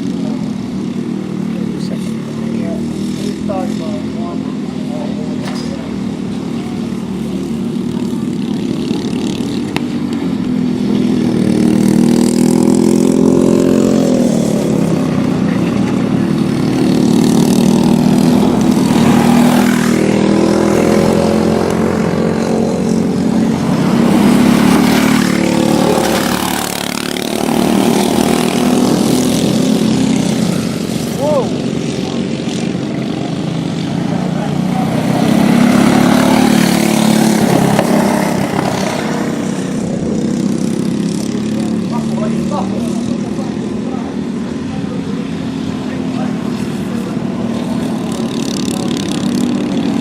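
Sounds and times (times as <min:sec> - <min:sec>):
kart engines racing: 0:00.0 - 0:50.0.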